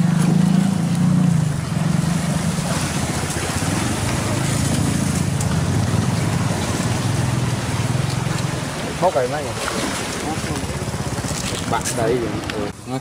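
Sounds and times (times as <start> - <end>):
small engine droning: 0.0 - 12.7.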